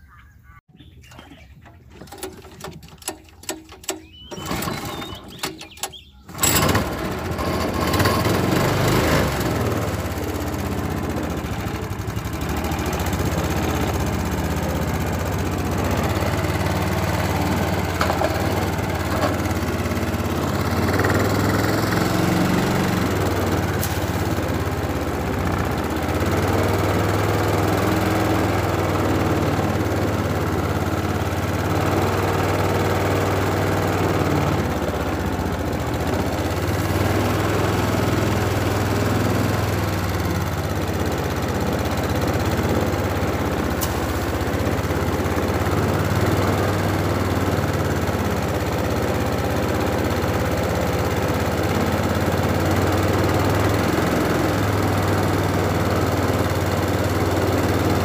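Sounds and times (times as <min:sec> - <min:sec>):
small boat engine running: 0:00.8 - 0:58.0.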